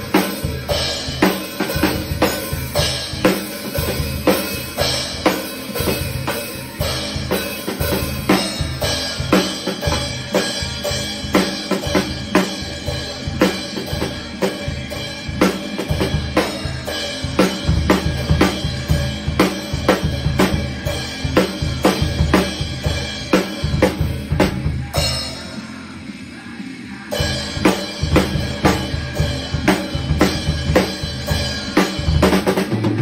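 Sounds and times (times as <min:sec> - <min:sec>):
drum kit beat: 0:00.0 - 0:33.0.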